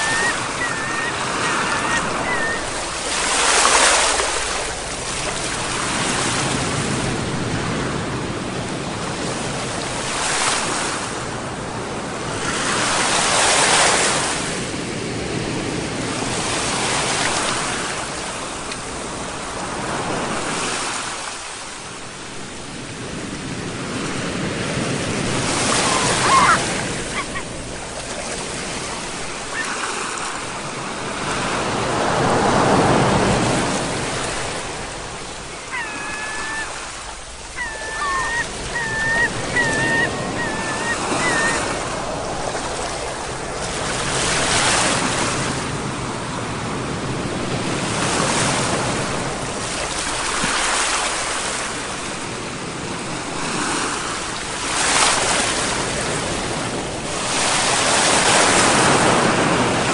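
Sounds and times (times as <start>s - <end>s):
wash of moving water: 0.0s - 59.9s
waves breaking: 0.0s - 59.9s.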